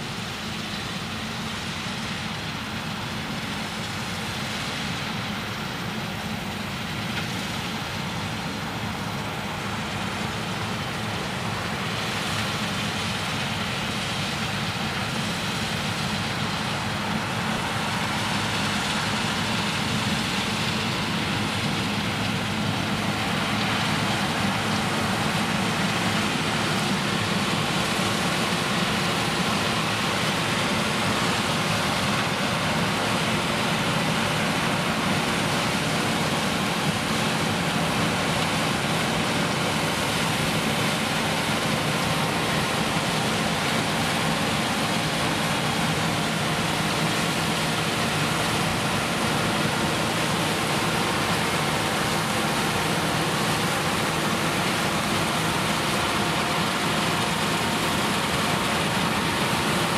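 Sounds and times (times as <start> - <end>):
combine harvester engine and threshing: 0.0 - 59.9.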